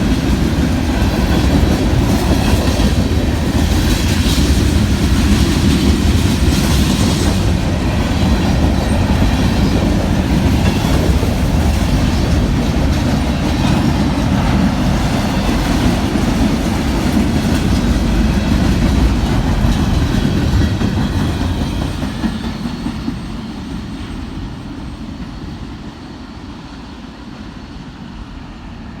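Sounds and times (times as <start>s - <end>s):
train wheels clattering over rails: 0.0s - 27.0s.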